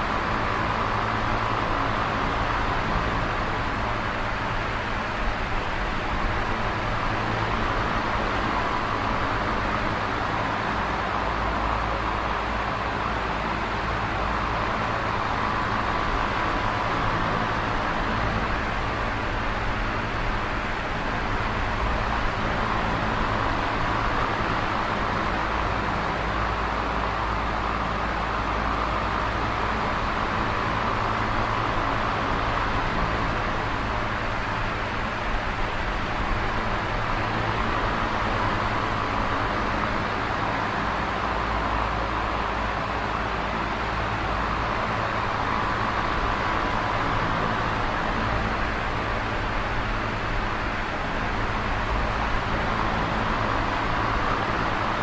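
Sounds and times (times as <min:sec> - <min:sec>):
electric fan whooshing: 0:00.0 - 0:55.0.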